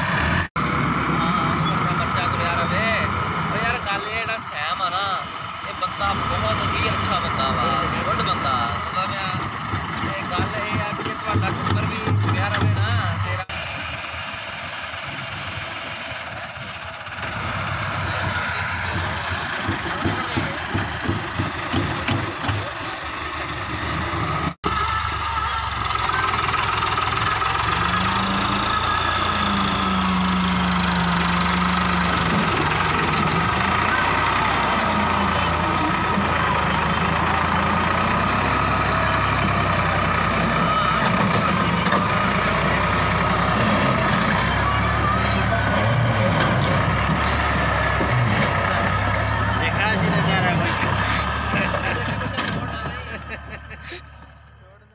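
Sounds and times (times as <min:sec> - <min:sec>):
tractor engine working under load: 0:00.0 - 0:54.9.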